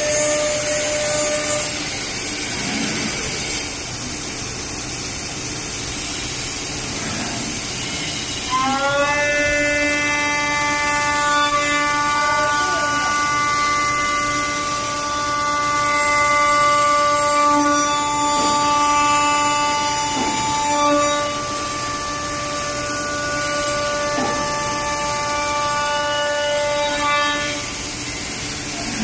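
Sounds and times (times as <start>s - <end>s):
spindle motors whining: 0.0s - 4.8s, 6.3s - 29.0s.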